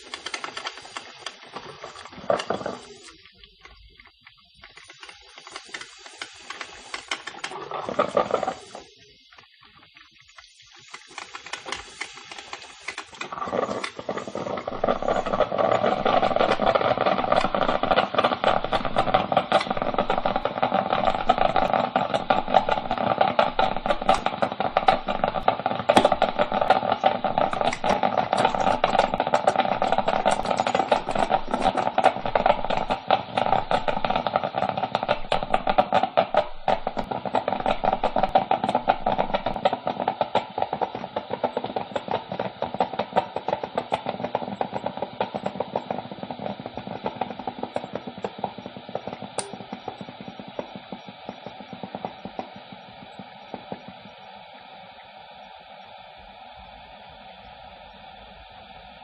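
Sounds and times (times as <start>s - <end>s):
coffee maker sputtering: 0.0s - 9.3s, 10.8s - 59.0s.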